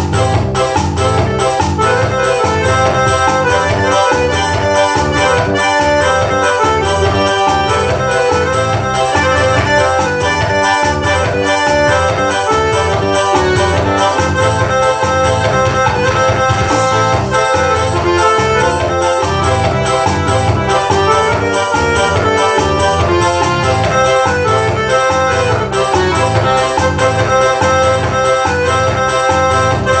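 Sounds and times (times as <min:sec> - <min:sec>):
accordion melody: 0:00.0 - 0:30.0
steady drum beat: 0:00.0 - 0:30.0.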